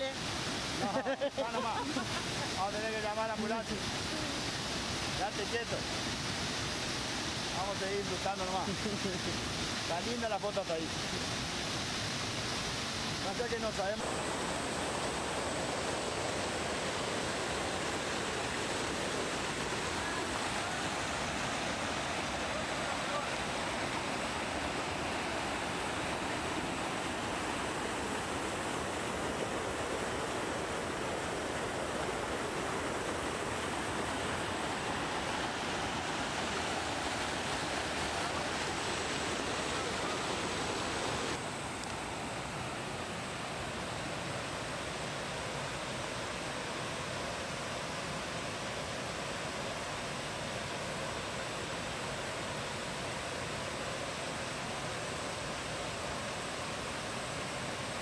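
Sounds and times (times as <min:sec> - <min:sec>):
waterfall and rapids rushing: 0:00.0 - 0:58.0.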